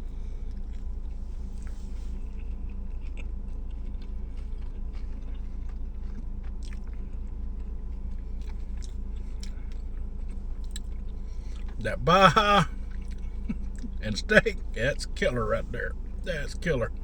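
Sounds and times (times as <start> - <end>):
person chewing food: 0.0 - 14.0
steady low hum: 0.0 - 17.0.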